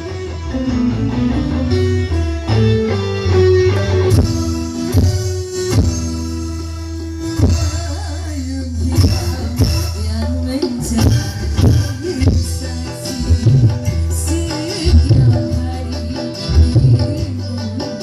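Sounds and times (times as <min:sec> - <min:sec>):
guitar melody: 0:00.0 - 0:08.0, 0:10.5 - 0:18.0
heavy bass notes: 0:00.0 - 0:17.5.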